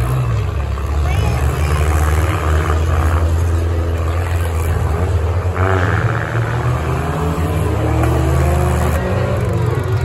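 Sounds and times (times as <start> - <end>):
car engines revving: 0.0 - 10.0.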